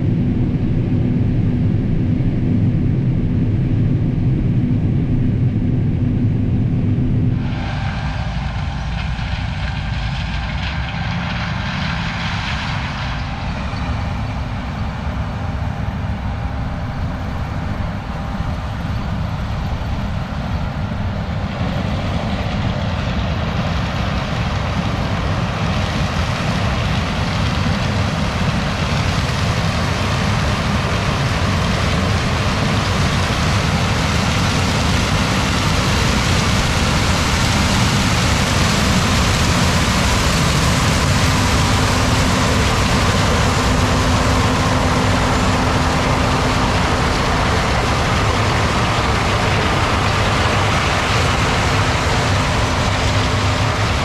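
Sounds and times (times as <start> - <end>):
combine harvester running: 5.1 - 54.0.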